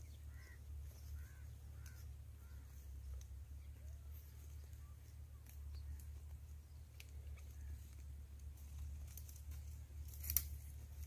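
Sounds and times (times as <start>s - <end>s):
steady low rumble: 0.0s - 11.0s
twigs and brush crackling: 0.0s - 11.0s.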